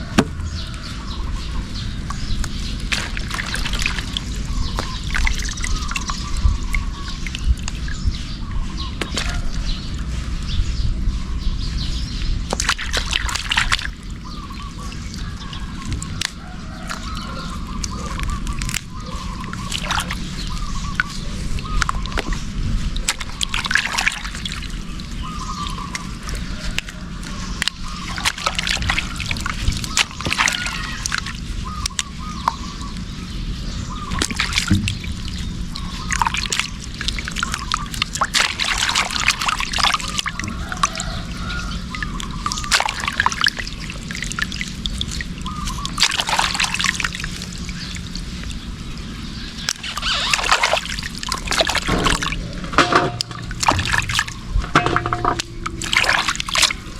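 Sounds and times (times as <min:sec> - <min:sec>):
water sloshing and splashing: 0:00.0 - 0:56.9.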